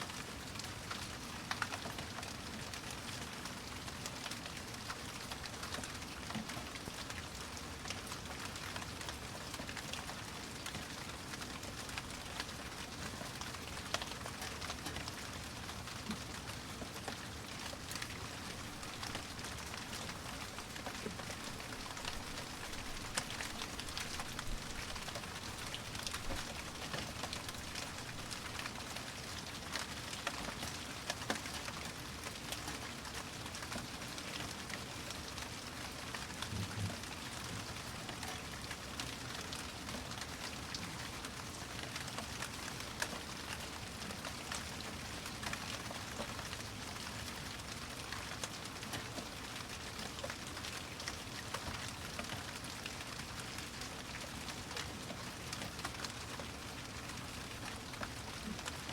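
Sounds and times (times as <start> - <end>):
rain falling: 0.0 - 58.9
raindrops ticking on a surface: 0.0 - 58.9.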